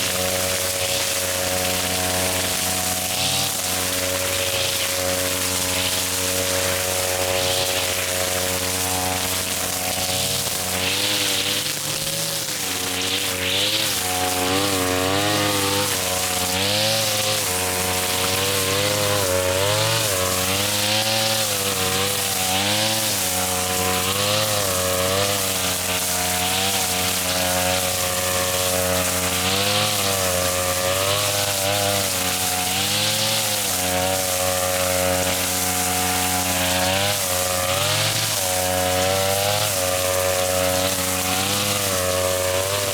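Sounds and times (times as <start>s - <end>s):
grass cutter engine running: 0.0s - 42.9s
swishing of cut grass: 0.0s - 42.9s.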